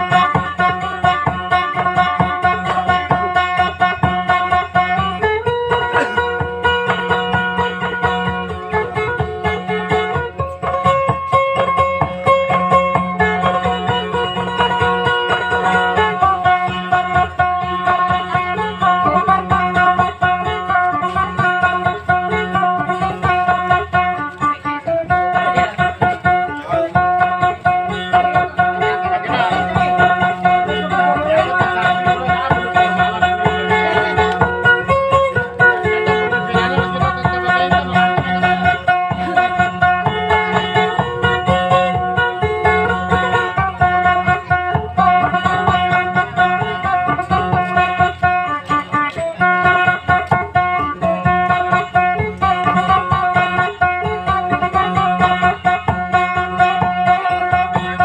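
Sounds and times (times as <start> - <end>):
acoustic guitar plucked melody: 0.0 - 58.0.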